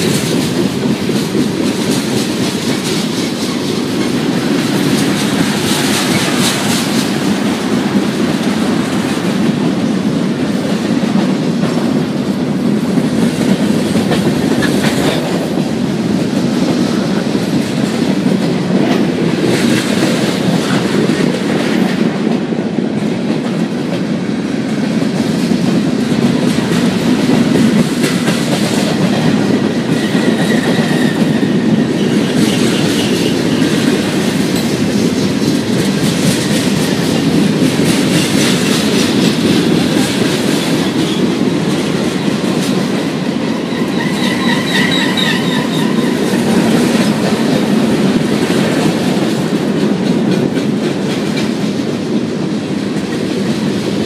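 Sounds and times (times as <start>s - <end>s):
train clicks and clanks: 0.0s - 54.0s
train wheels rumbling on rail: 0.0s - 54.0s.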